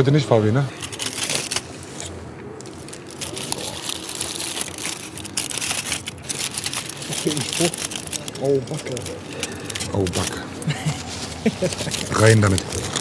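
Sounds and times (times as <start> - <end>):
paper wrapping crinkling: 0.4 - 13.0.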